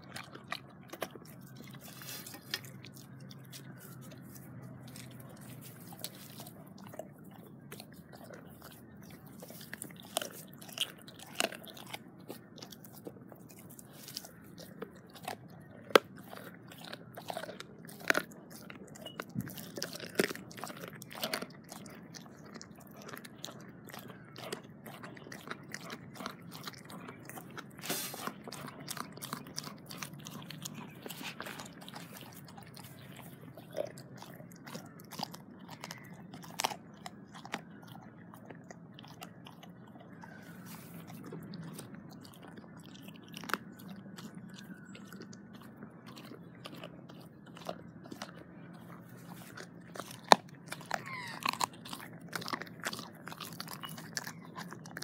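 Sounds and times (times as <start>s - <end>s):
dog crunching bone: 0.0s - 55.0s.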